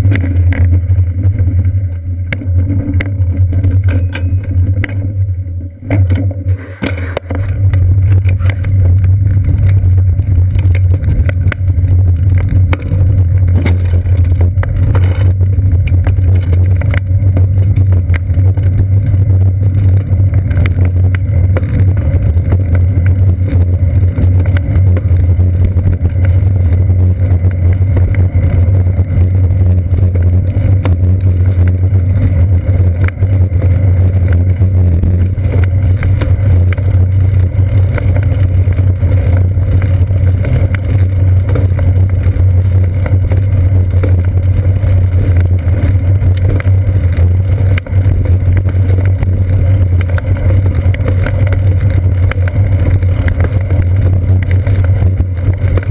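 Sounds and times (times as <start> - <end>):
road vibration on wet pavement: 0.0 - 55.9
wind rumble while cycling: 0.0 - 55.9.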